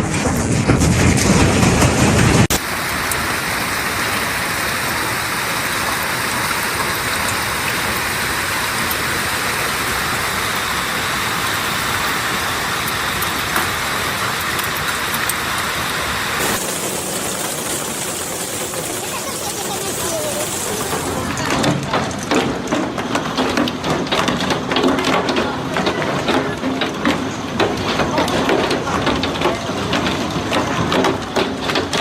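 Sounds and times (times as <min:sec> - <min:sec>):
hail and rain pelting: 0:00.0 - 0:32.0
hailstones ticking: 0:00.0 - 0:32.0.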